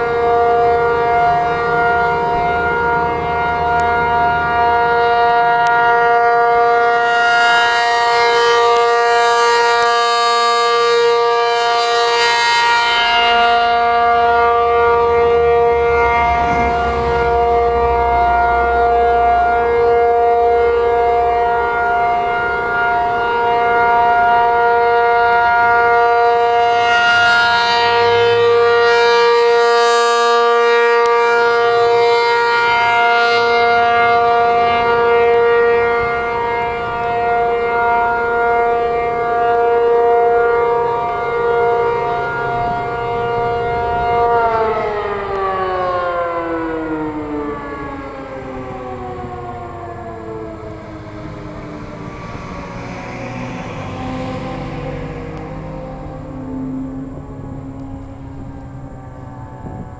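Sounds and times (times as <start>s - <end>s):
two-note warning siren: 0.0s - 59.9s.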